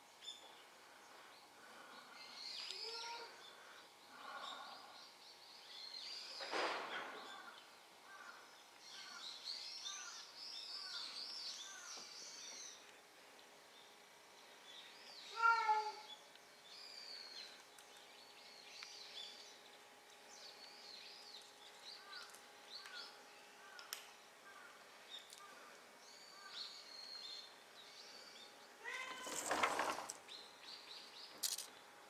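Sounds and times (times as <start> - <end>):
small birds chirping: 0.0 - 6.5, 7.2 - 31.9.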